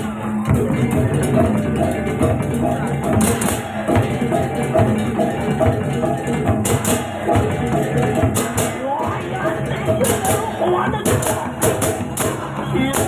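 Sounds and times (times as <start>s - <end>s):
clashing cymbals: 0.0s - 13.0s
drums: 0.0s - 13.0s
gamelan playing: 0.0s - 13.0s.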